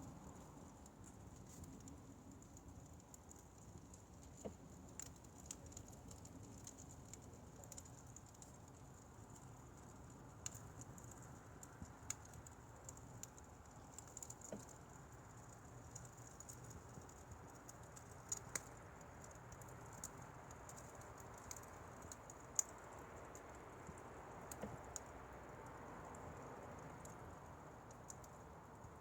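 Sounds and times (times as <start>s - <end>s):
firewood crackling: 0.0s - 29.0s.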